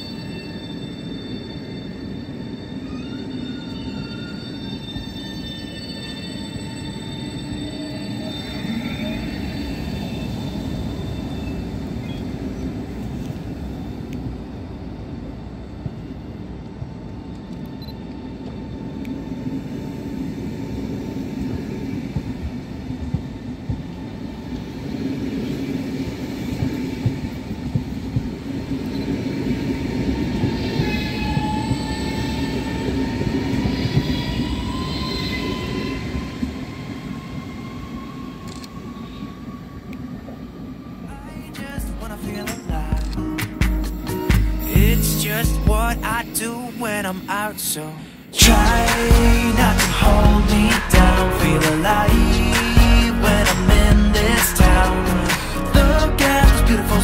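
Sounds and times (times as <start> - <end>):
high whine: 0.0 - 37.0, 41.0 - 57.0
train wheels rumbling on rail: 0.0 - 46.5.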